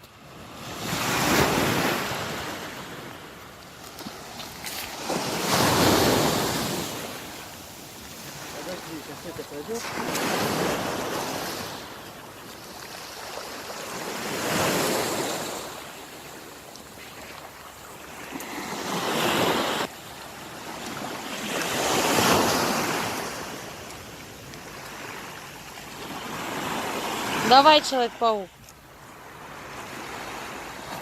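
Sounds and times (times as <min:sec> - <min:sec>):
sea waves breaking on shore: 0:00.1 - 0:31.0.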